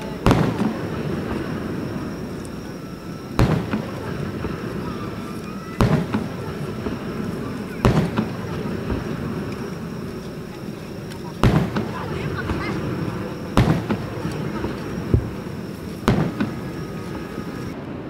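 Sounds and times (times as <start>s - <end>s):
fireworks bangs: 0.0s - 18.0s
steady background noise: 0.0s - 18.0s.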